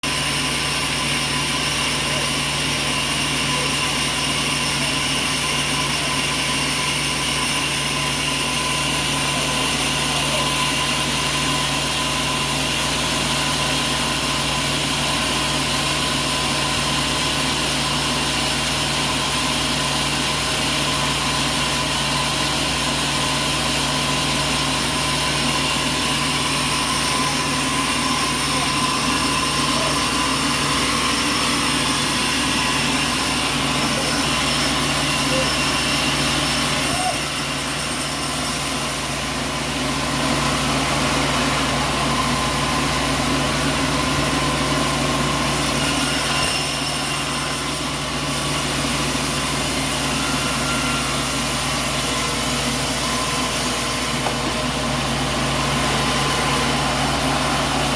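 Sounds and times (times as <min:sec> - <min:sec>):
sawmill machinery drone: 0:00.0 - 0:57.9.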